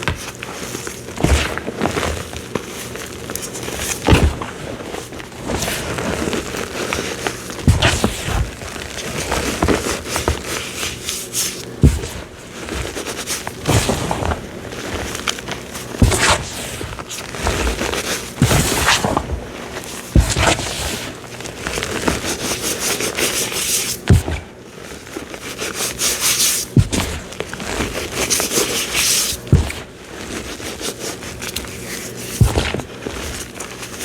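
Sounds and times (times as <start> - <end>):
cornstarch squeaky crunching: 0.0 - 34.0.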